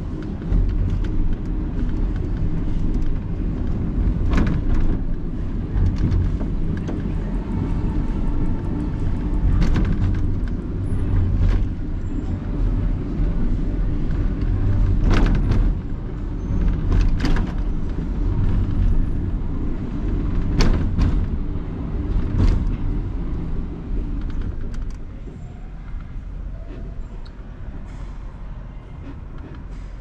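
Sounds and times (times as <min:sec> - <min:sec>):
funicular car rumbling on track: 0:00.0 - 0:30.0.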